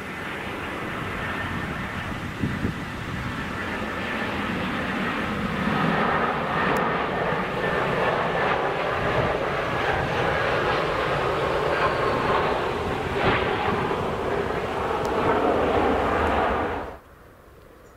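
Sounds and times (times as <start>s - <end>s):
thin engine whine: 0.0s - 17.0s
jet engines roaring: 0.0s - 17.9s.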